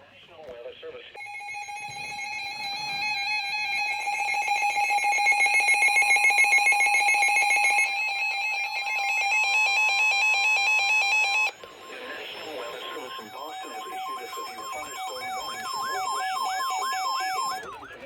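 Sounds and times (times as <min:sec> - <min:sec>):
harsh electronic alert tone: 0:01.2 - 0:18.0.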